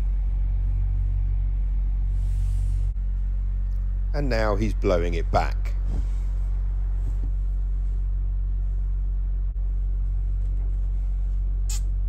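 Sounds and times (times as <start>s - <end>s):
steady low drone: 0.0s - 12.0s.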